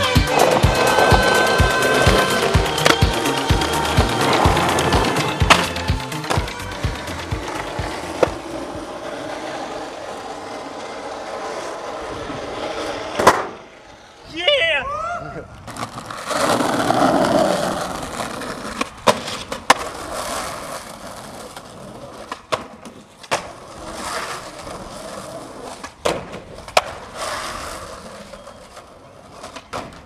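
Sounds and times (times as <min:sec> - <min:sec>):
skateboard clacking on ground: 0:00.0 - 0:14.7, 0:15.5 - 0:30.0
skateboard wheels rolling on asphalt: 0:00.0 - 0:30.0.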